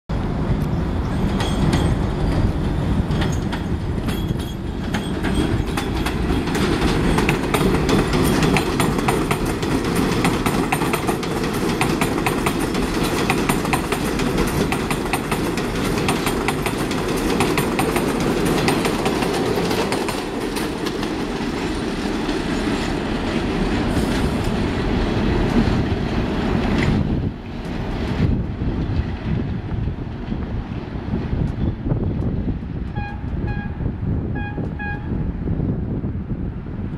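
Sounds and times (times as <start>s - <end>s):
subway train rumbling past: 0.1s - 36.9s
wheels clicking over rail joints: 0.6s - 30.6s.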